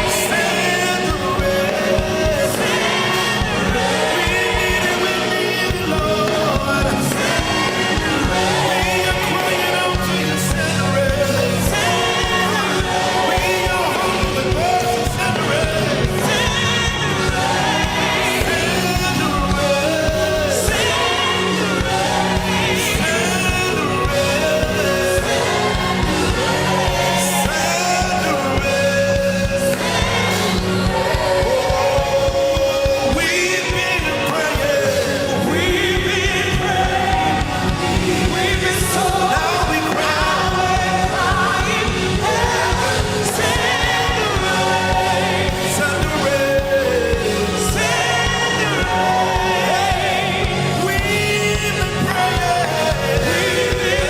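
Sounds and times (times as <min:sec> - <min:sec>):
gospel singers with band: 0:00.0 - 0:54.0.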